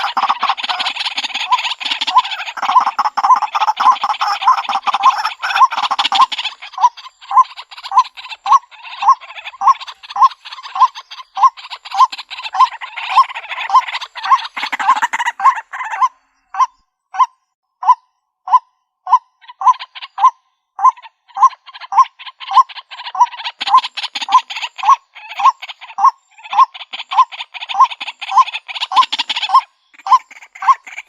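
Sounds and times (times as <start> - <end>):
harsh raspy bird chatter: 0.0 - 31.0.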